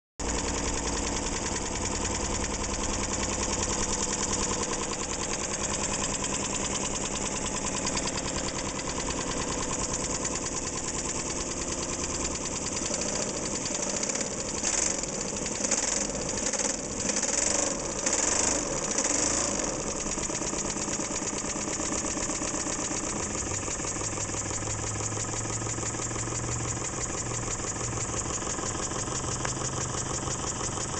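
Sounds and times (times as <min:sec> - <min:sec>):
model steam engine running: 0:00.2 - 0:30.9.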